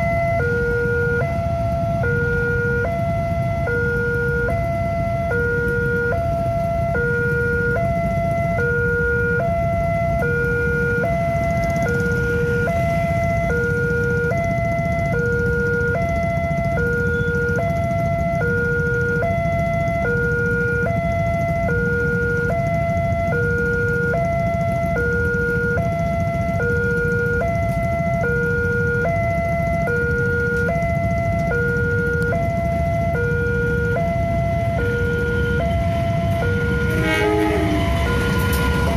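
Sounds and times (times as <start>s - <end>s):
low rumble of traffic: 0.0s - 38.9s
two-tone level crossing alarm: 0.0s - 38.9s.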